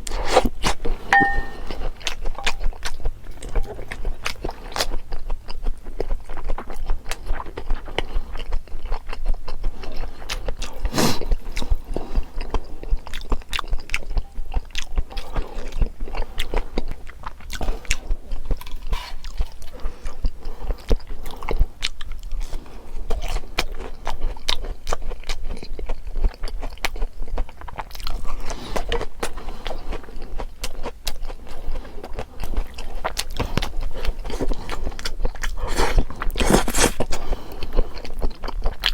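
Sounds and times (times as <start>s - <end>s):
close-miked chewing and biting: 0.0s - 38.9s.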